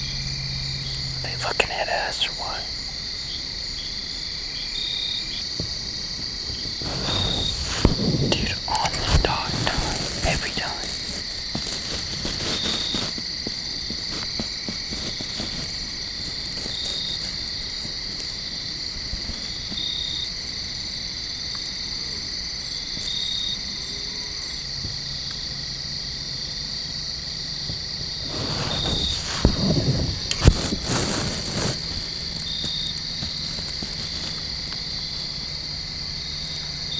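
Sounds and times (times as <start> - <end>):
crickets chirping chorus: 0.0 - 36.9.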